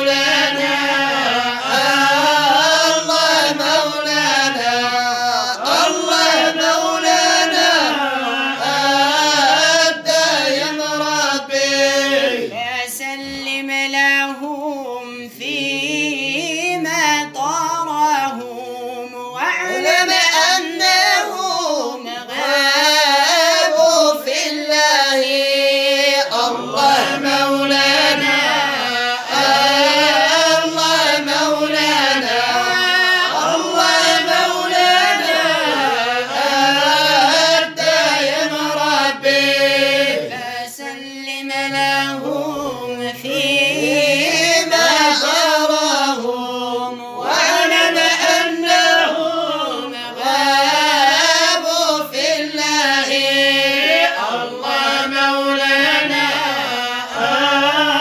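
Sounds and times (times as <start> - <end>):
man singing devotional song: 0.0 - 58.0.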